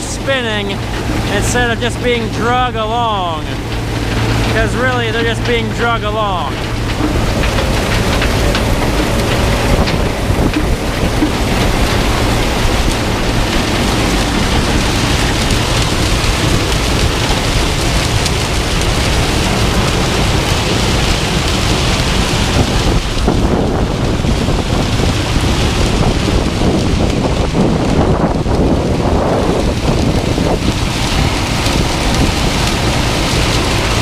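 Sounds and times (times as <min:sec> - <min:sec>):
combine harvester rushing noise: 0:00.0 - 0:34.0
low engine hum: 0:00.0 - 0:34.0.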